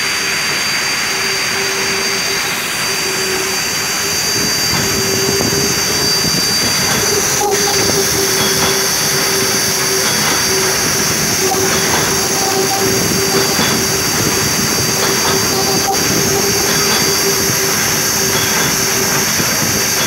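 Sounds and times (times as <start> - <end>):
cutting machine humming and hissing: 0.0 - 20.0.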